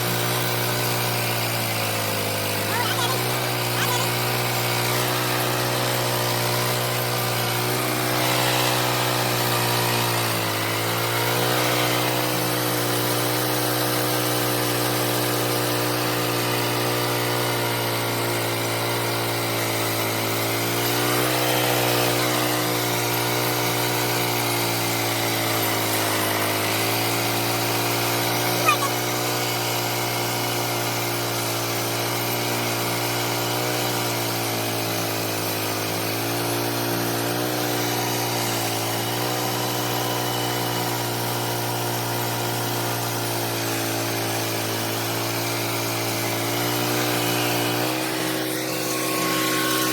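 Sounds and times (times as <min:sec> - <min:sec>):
sawmill engine cutting log: 0:00.0 - 0:49.9.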